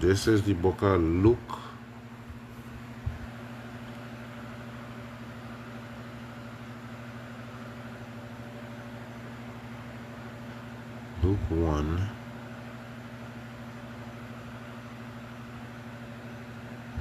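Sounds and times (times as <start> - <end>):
electrical hum with whirring hiss: 0.0 - 17.0.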